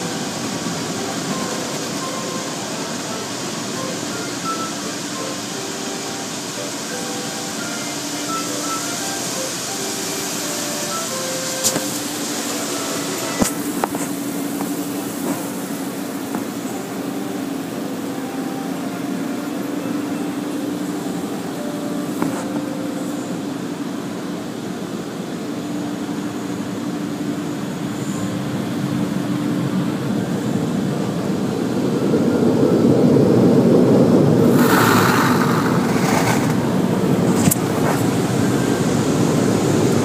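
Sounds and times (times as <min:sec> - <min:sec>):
car wash machinery hum: 0:00.0 - 0:40.0
water spraying on car: 0:00.0 - 0:40.0.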